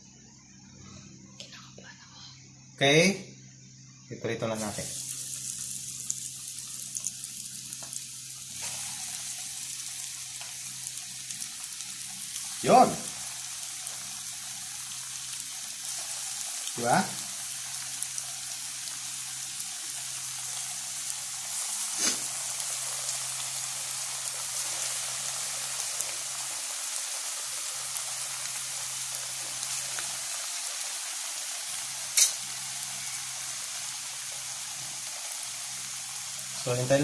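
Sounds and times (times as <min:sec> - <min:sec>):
food sizzling in hot oil: 0:04.4 - 0:37.0.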